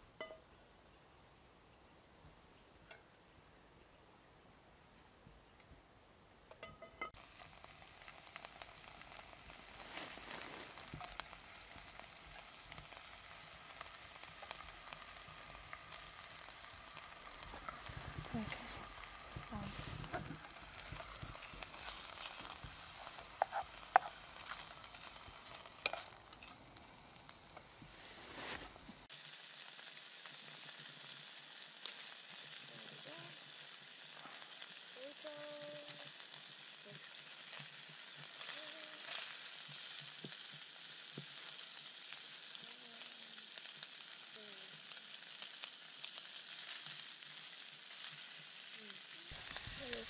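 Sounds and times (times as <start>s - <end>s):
oil sizzling in a frying pan: 6.5s - 50.0s.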